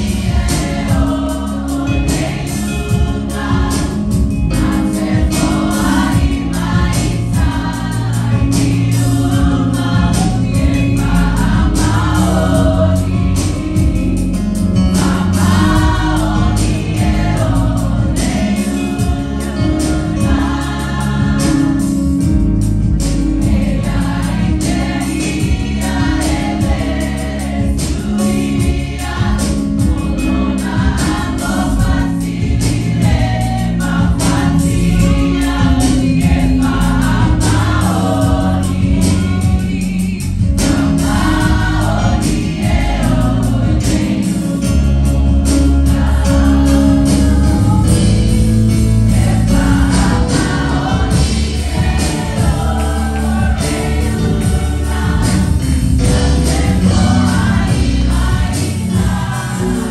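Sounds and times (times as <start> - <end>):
bass and drums accompaniment: 0.0 - 59.9
choir singing gospel: 0.0 - 59.9.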